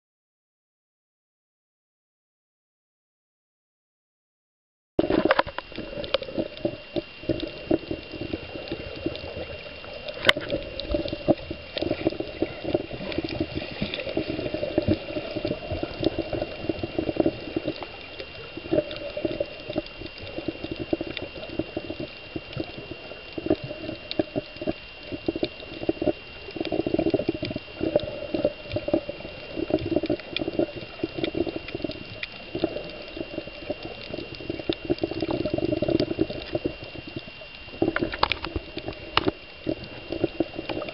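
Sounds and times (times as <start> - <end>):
muffled water sloshing and bubbling: 5.0 - 40.9
small clicks: 5.0 - 40.9.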